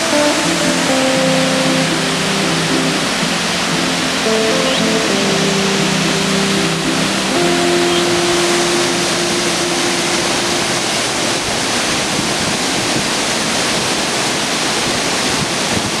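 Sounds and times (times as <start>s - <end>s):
held music notes: 0.0s - 12.9s
waterfall rushing: 0.0s - 16.0s.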